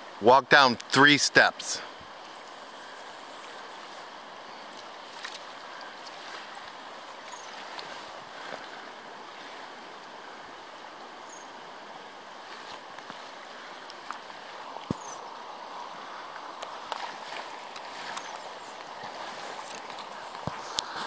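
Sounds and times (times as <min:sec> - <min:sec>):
river flowing over gravel: 0:00.0 - 0:21.0.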